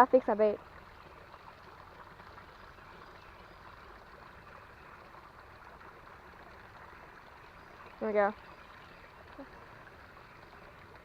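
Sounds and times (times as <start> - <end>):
faint creek water flowing: 0.0 - 11.0.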